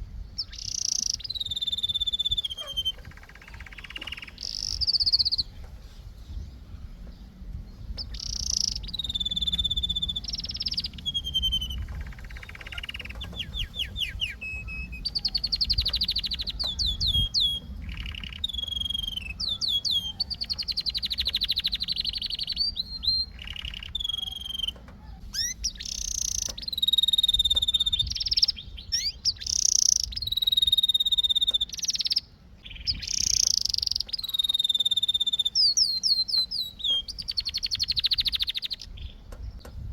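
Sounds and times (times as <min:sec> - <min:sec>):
low background rumble: 0:00.0 - 0:34.5
canary singing: 0:00.0 - 0:39.9.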